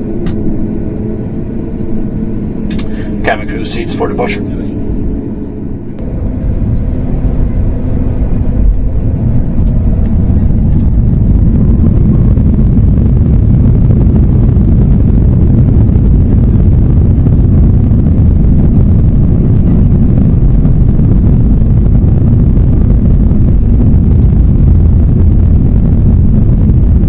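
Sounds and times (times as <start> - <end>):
jet engines spooling up: 0.0 - 27.0.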